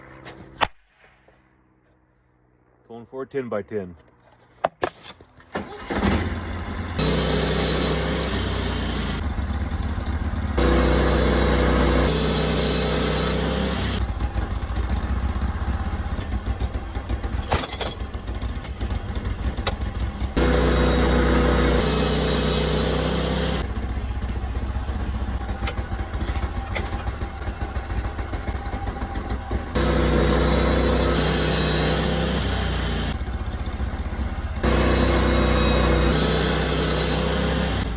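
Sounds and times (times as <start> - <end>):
sawmill engine sawing log: 5.6 - 17.6, 18.4 - 37.9.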